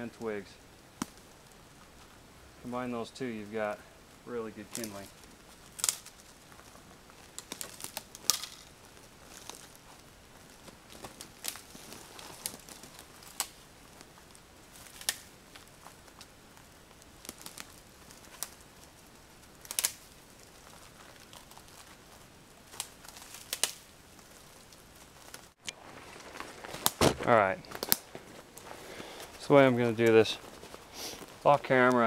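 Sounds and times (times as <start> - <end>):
dry needles rustling: 0.0 - 32.0
dry twigs snapping: 0.9 - 2.2, 4.6 - 32.0.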